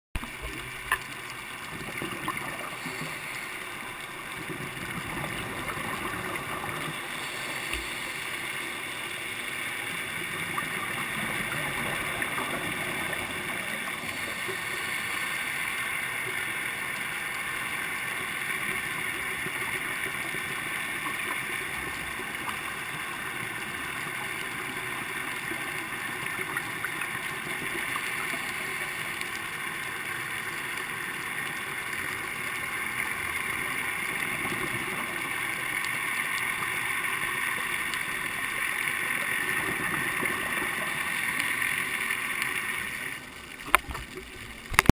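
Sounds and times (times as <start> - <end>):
dense fine crackling underwater: 0.2 - 44.9
underwater hiss: 1.9 - 43.2.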